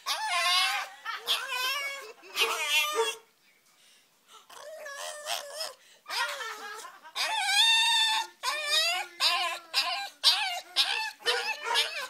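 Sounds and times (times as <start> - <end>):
dog howling and whining: 0.0 - 3.2, 4.6 - 12.0.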